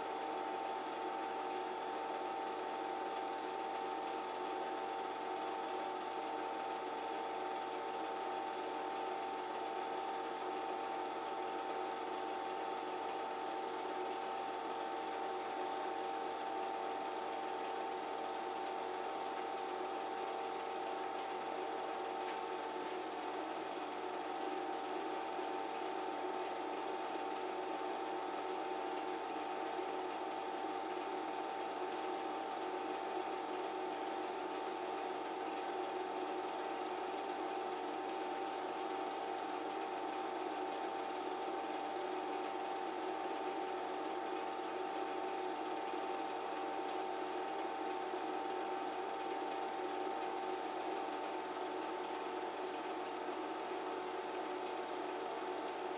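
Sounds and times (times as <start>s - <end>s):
film projector running: 0.0s - 55.9s.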